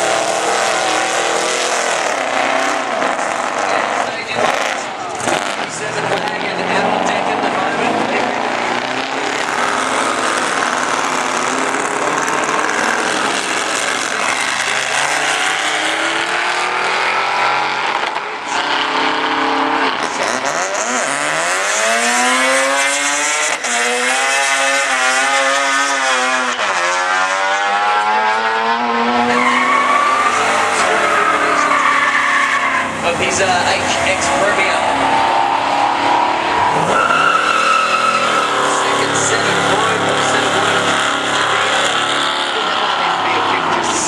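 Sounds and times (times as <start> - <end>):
car engine revving hard: 0.0 - 44.0
spinning tyres squealing: 0.0 - 44.0.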